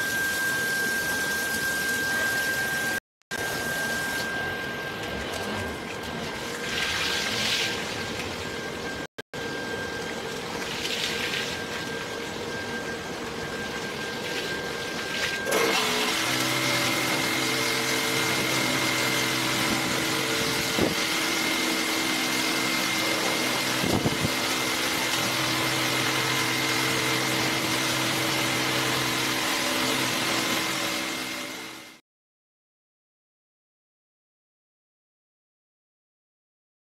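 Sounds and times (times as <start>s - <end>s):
car wash machine hum: 0.0s - 32.0s.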